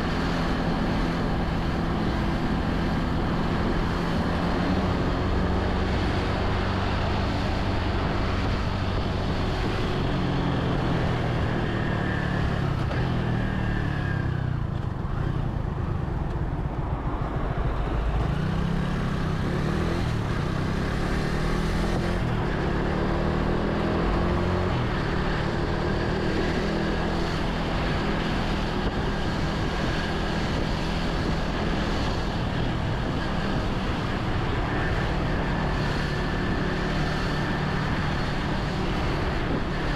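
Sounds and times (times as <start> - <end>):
road noise: 0.0 - 39.9
vehicle engine: 0.0 - 39.9.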